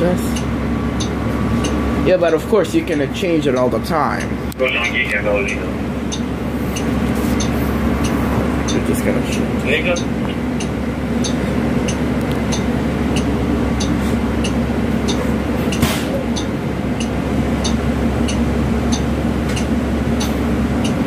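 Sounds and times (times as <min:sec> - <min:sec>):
bus engine and ventilation hum: 0:00.0 - 0:21.0
turn signal ticking: 0:00.3 - 0:04.3, 0:06.1 - 0:21.0.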